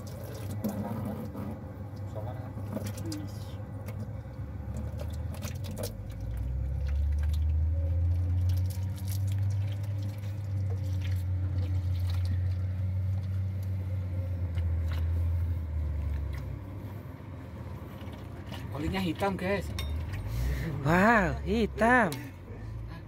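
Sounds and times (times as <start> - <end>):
oil draining rush: 0.0 - 21.8.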